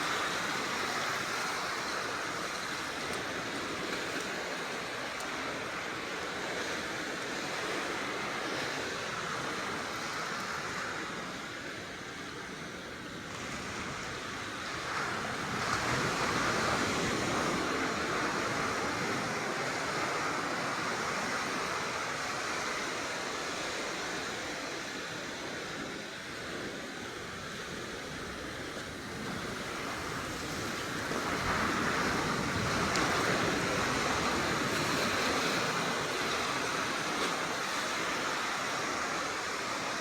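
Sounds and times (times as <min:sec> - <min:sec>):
sea surf washing on shore: 0:00.0 - 0:40.0.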